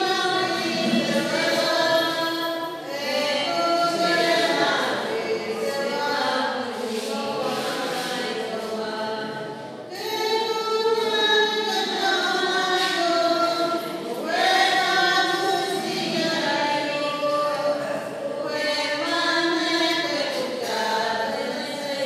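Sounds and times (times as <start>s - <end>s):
women singing a hymn: 0.0s - 22.0s.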